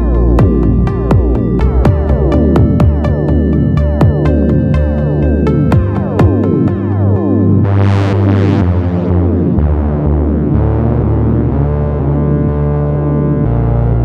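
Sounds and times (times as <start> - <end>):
ambient electronic music: 0.0 - 14.0.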